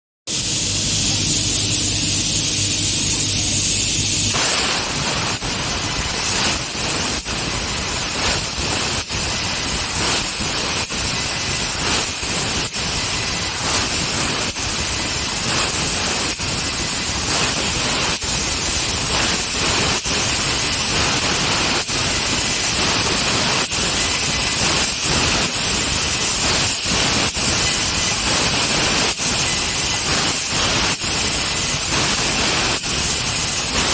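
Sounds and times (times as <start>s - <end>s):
air jet hissing from laser cutter: 0.3s - 33.9s
sharp crackles: 4.2s - 33.9s.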